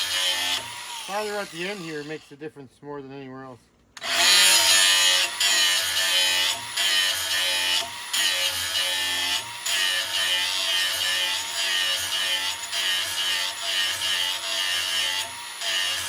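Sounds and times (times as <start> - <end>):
grinding wheel grinding steel: 0.0 - 2.4, 4.0 - 16.0.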